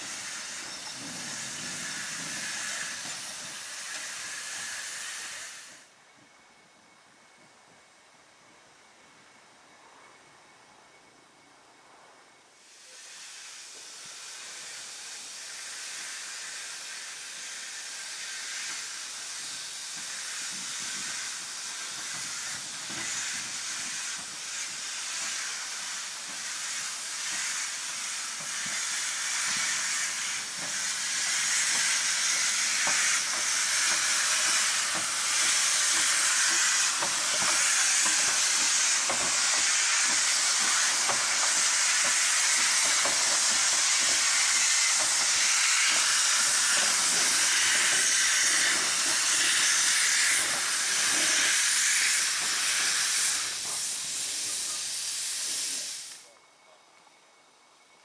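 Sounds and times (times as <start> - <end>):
steam locomotive hissing: 0.0 - 6.4, 12.5 - 56.4.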